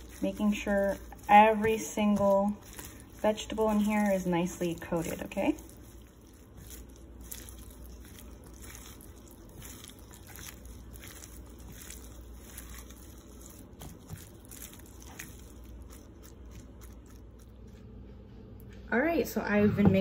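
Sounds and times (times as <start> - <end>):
vegetables squishing and rustling: 0.0 - 18.8.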